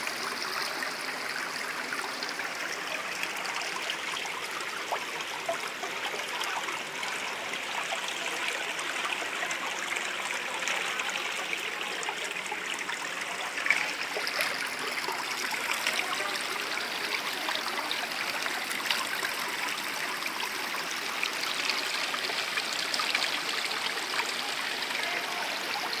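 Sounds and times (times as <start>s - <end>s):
river water running over rocks: 0.0s - 26.0s.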